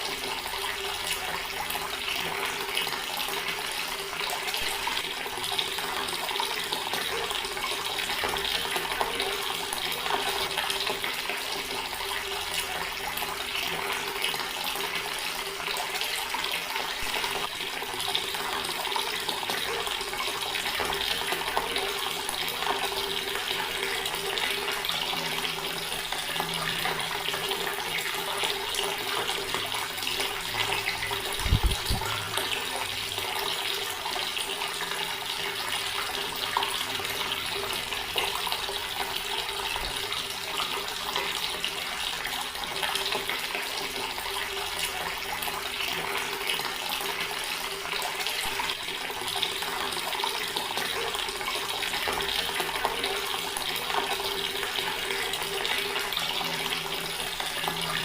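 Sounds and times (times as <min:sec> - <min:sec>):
tap water splashing into basin: 0:00.0 - 0:58.0.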